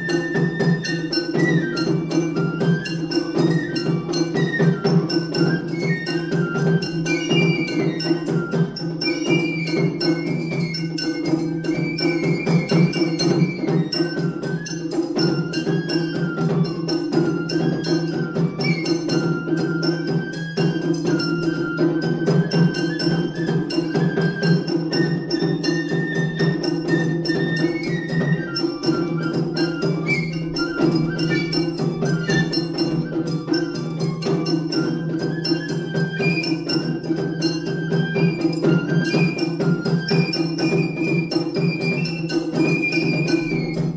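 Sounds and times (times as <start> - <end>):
bamboo flute melody: 0.0 - 43.9
rapid drum strokes: 0.0 - 43.9.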